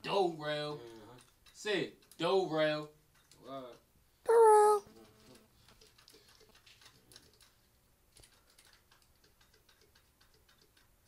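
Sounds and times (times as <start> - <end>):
small clicks and taps on metal parts: 0.0 - 3.9, 5.0 - 11.0.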